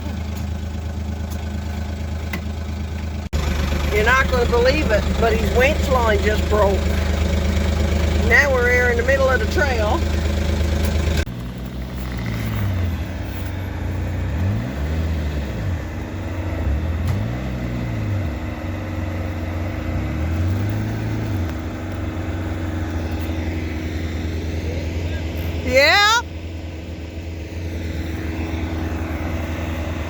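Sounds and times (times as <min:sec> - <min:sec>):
vehicle engine revving: 0:00.0 - 0:30.0.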